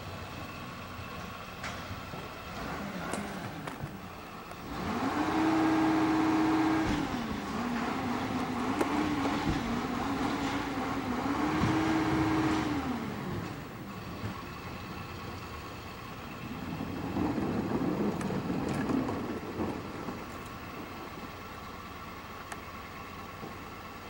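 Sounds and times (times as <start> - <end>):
garbage truck diesel engine revving: 0.0 - 24.0.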